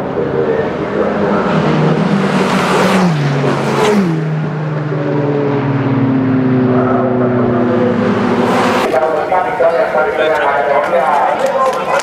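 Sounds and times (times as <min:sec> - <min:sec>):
engine running steadily: 0:00.0 - 0:11.8
race cars passing: 0:00.0 - 0:12.0.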